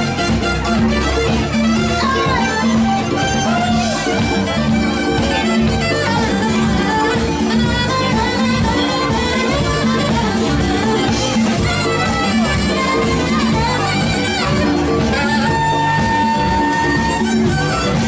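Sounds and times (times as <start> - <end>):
funk band playing: 0.0 - 18.0.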